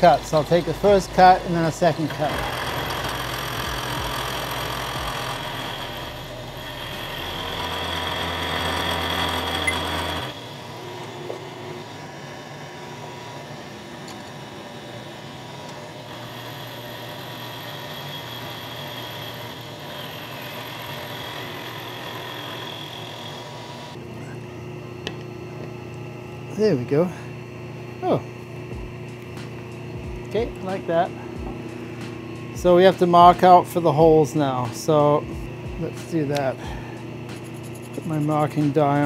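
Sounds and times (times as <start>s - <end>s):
milling machine cutting metal: 0.0s - 25.2s, 25.8s - 39.0s
milling machine running: 0.0s - 39.0s.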